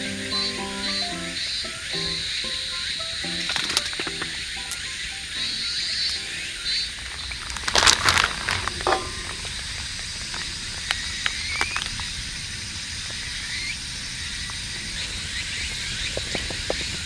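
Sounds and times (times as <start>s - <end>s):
campfire crackling and popping: 1.6s - 17.0s.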